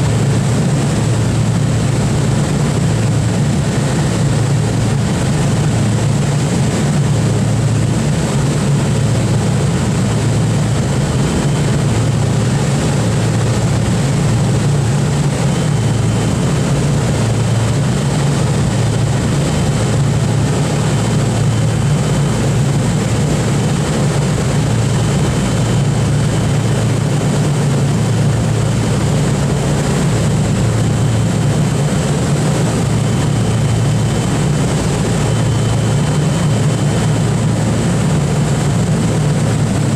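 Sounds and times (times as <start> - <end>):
propeller engines droning: 0.0 - 39.9.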